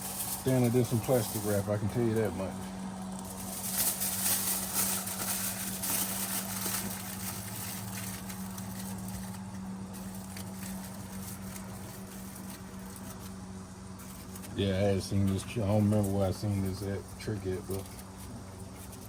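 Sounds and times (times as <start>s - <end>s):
aluminum foil crinkling: 0.0s - 19.0s
steady low hum: 0.0s - 19.0s.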